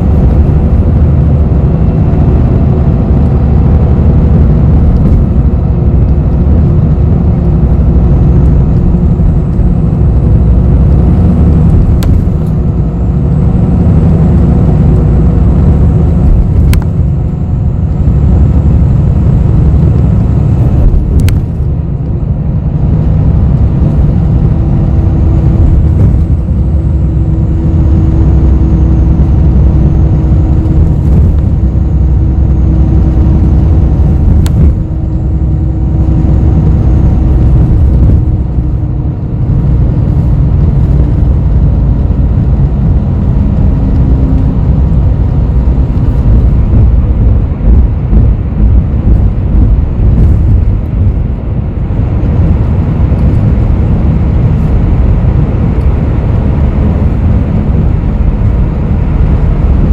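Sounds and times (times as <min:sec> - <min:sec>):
bus engine and road rumble: 0:00.0 - 0:59.9
faint engine hum: 0:00.0 - 0:59.9.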